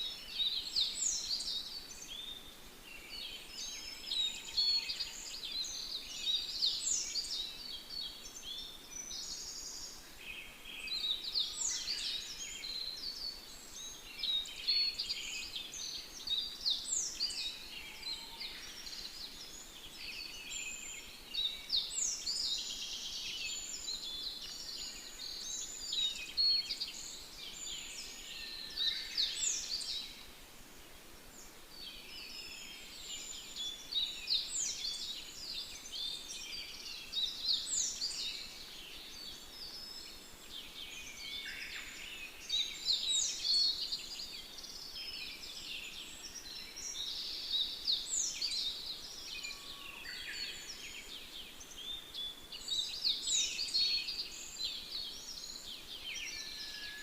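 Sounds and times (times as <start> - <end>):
birds singing and chirping: 0.0 - 30.3, 31.2 - 57.0.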